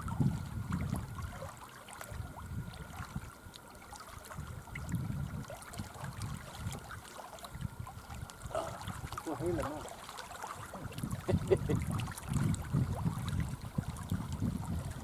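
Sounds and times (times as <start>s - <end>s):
wind on microphone: 0.0s - 3.4s, 4.2s - 9.8s, 10.7s - 15.0s
water trickling and lapping: 0.0s - 15.0s.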